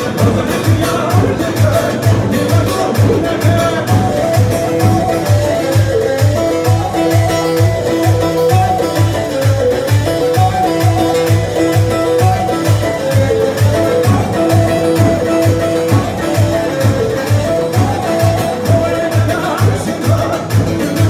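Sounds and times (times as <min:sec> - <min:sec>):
electronic keyboard melody: 0:00.0 - 0:21.0
steady drum beat: 0:00.0 - 0:21.0.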